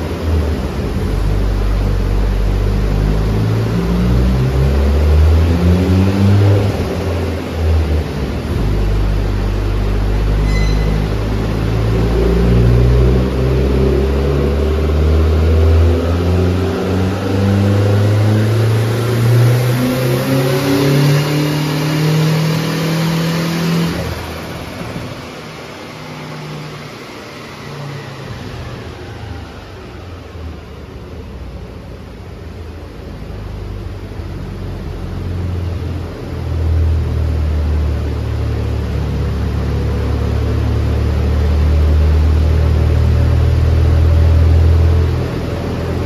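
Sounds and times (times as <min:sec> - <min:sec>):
car engine accelerating: 0:00.0 - 0:46.0.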